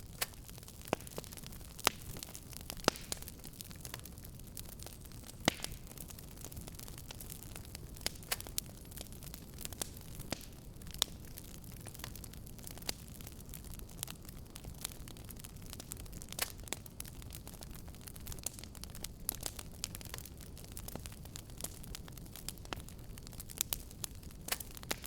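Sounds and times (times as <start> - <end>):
fire crackling and popping: 0.0 - 25.0
low rumble of burning fire: 0.0 - 25.0.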